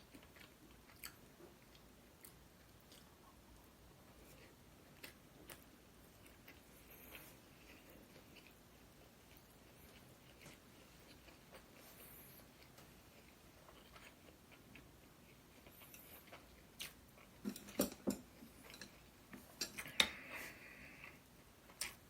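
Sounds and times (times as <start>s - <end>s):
chewing: 0.0s - 3.4s, 4.2s - 22.0s.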